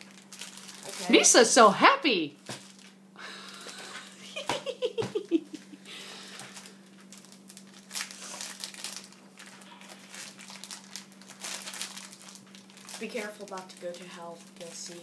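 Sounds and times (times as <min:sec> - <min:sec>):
plastic bag crinkling: 0:00.0 - 0:01.7, 0:02.4 - 0:03.7, 0:05.5 - 0:15.0.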